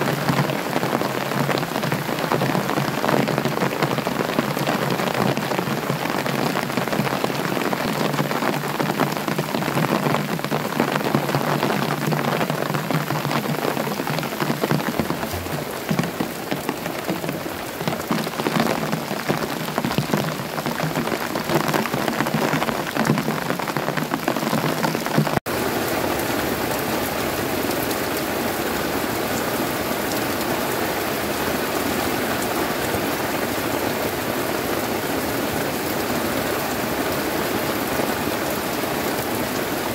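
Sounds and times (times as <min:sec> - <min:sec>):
heavy rain falling: 0:00.0 - 0:39.9
raindrops pattering: 0:00.0 - 0:39.9.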